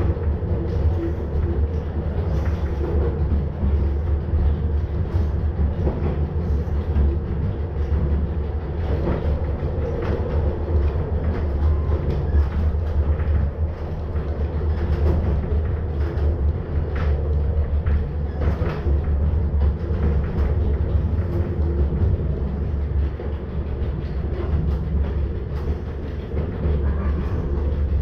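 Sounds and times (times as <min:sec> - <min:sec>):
electric train rumbling: 0:00.0 - 0:28.0
wheels clicking on rails: 0:00.0 - 0:28.0.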